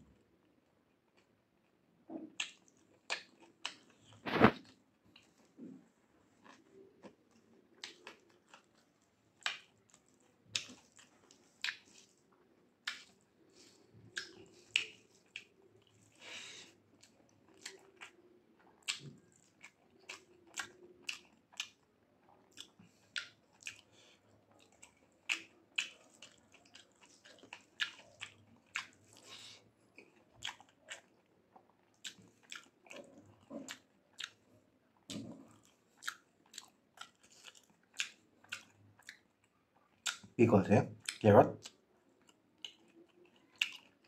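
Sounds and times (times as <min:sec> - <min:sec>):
person chewing with wet mouth clicks: 0:02.3 - 0:05.3, 0:06.4 - 0:12.2, 0:12.8 - 0:16.2, 0:17.0 - 0:21.8, 0:22.5 - 0:23.8, 0:24.6 - 0:29.4, 0:30.0 - 0:34.4, 0:35.0 - 0:40.4, 0:41.0 - 0:44.0.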